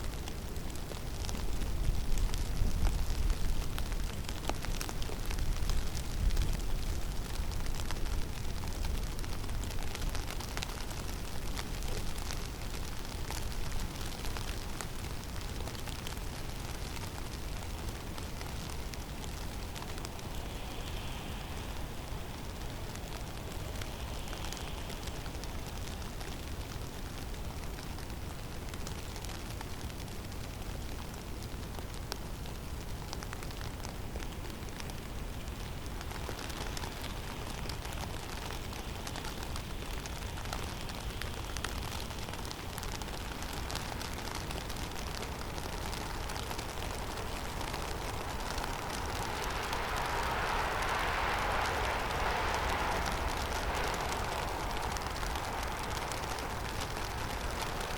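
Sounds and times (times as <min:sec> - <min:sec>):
faint ticks: 0:00.1 - 0:57.9
blizzard wind rushing: 0:00.4 - 0:28.5, 0:32.7 - 0:57.9.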